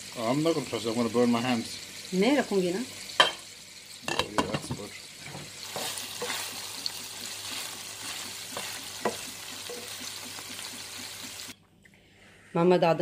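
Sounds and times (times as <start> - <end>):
kebabs sizzling in a frying pan: 0.0 - 11.6.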